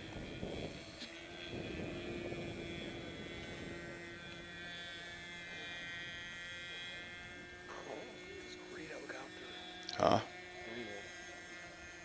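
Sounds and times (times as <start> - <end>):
model airplane engines buzzing: 0.0 - 12.0.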